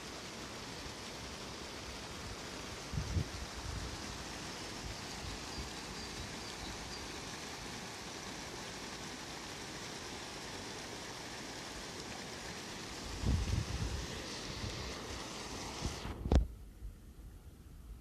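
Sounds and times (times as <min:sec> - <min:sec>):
river water rushing over weir: 0:00.0 - 0:16.3.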